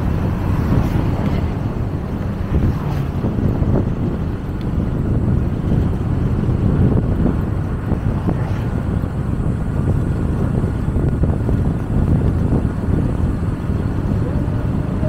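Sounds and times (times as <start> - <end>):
motorcycle running: 0.0 - 15.0
road noise: 0.0 - 15.0
wind buffeting microphone: 0.0 - 15.0.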